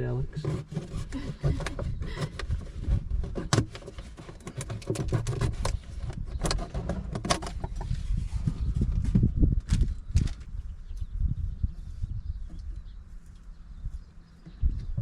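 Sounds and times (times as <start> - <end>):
low rumbling handling noise: 0.0 - 15.0.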